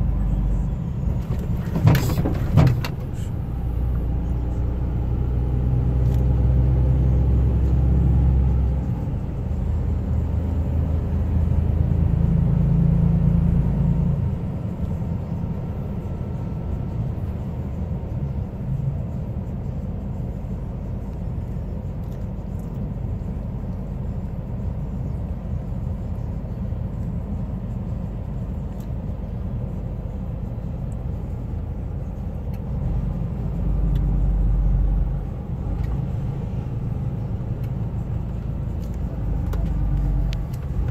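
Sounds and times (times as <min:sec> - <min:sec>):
low vehicle rumble: 0:00.0 - 0:40.9.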